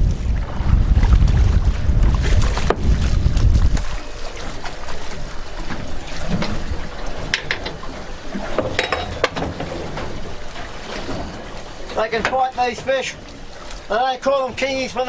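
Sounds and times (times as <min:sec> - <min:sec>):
water lapping around boat: 0:00.0 - 0:15.0
wind buffeting microphone: 0:00.0 - 0:15.0.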